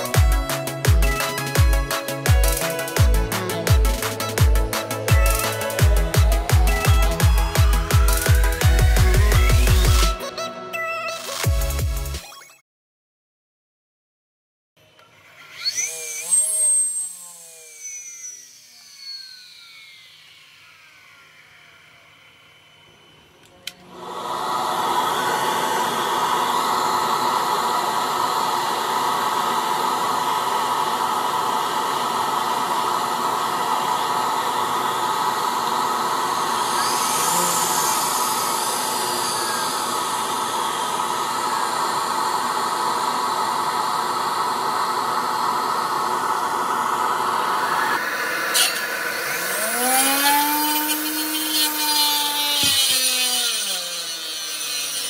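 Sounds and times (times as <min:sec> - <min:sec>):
circular saw whine: 0:00.0 - 0:10.4, 0:14.8 - 0:55.0.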